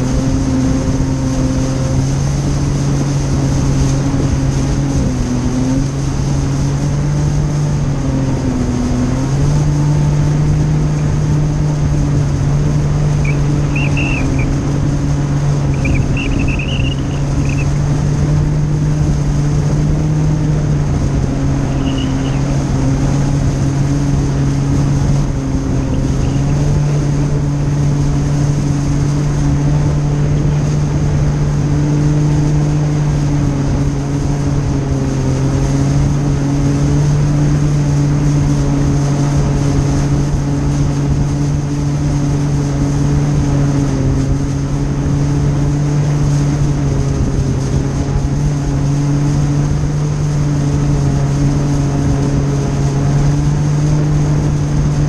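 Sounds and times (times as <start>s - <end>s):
jet ski engine running: 0.0s - 55.0s
water spray rushing: 0.0s - 55.0s.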